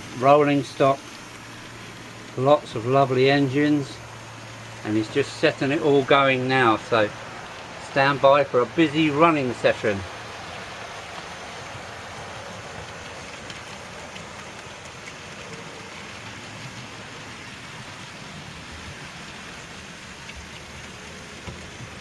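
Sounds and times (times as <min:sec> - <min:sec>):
model trains rumbling on track: 0:00.0 - 0:22.0.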